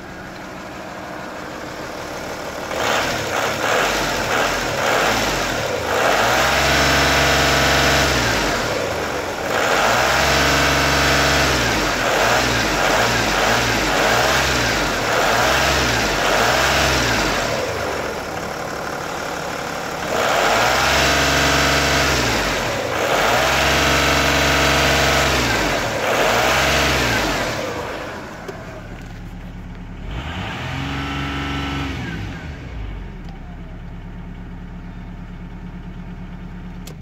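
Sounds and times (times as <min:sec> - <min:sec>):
diesel engine idling: 0:00.0 - 0:37.0
diesel engine revving: 0:00.0 - 0:37.0.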